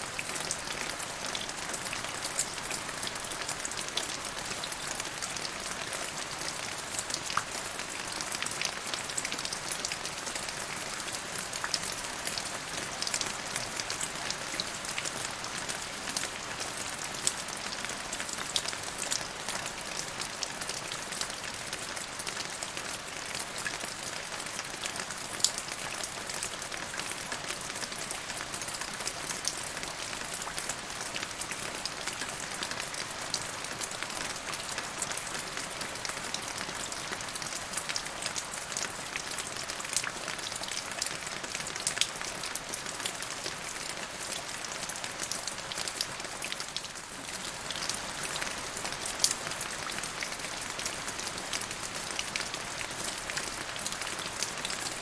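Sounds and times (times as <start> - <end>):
raindrops ticking on a surface: 0.0 - 55.0.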